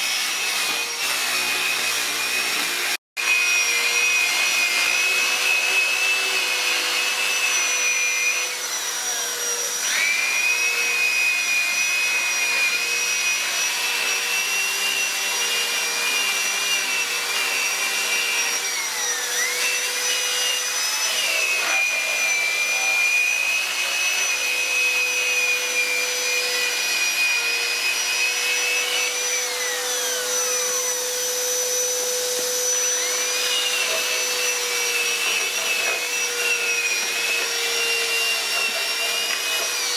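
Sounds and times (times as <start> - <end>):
die grinder motor whine: 0.0 - 39.9.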